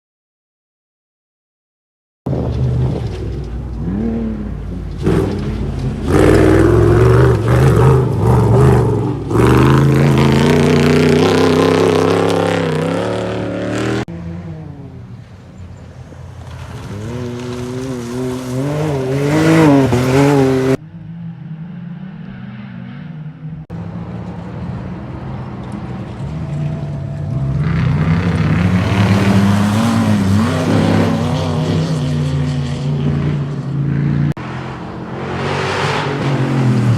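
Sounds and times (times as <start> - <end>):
race car engines revving: 2.3 - 36.9.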